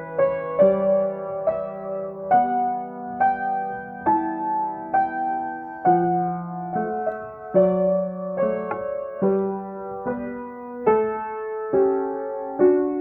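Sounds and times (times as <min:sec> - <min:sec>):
slow piano improvisation: 0:00.0 - 0:13.0.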